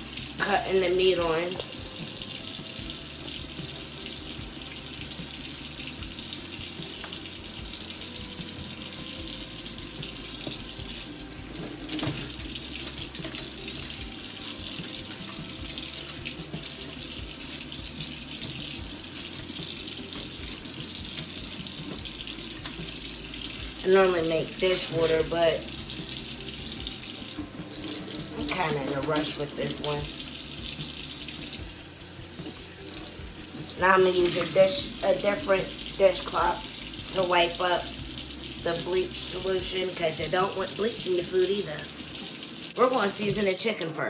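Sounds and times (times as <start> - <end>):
tap water splashing into sink: 0.0 - 43.5.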